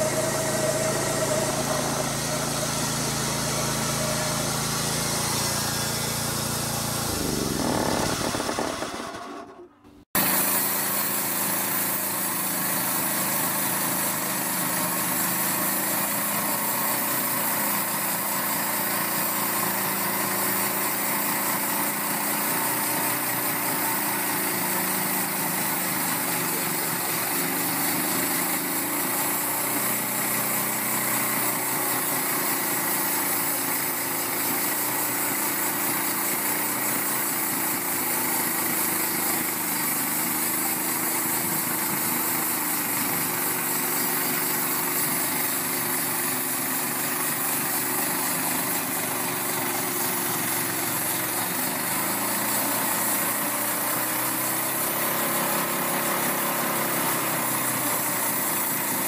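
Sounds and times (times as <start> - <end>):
band sawmill cutting log: 0.0 - 59.0.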